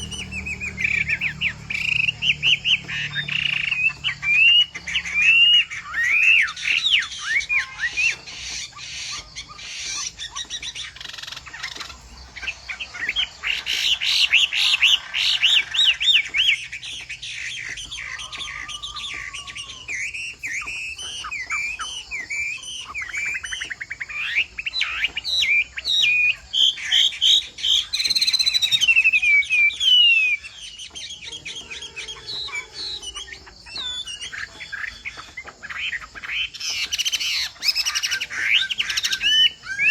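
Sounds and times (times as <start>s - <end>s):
bird singing whistled phrases: 0.0s - 8.3s, 9.1s - 39.9s.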